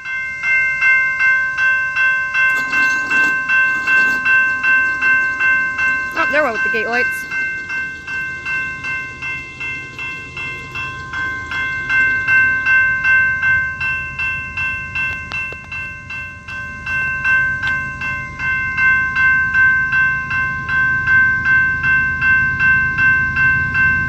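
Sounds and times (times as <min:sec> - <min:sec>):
electronic crossing bell ringing: 0:00.0 - 0:24.0
train rumble approaching: 0:00.1 - 0:24.0.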